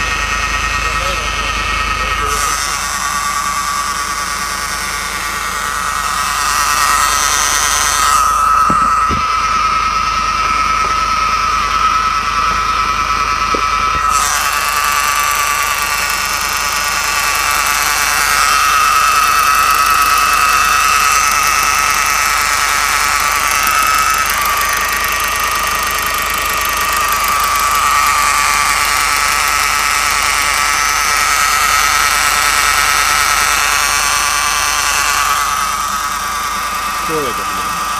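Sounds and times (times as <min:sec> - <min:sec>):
diesel engine running: 0:00.0 - 0:37.9
high whine: 0:00.0 - 0:37.9.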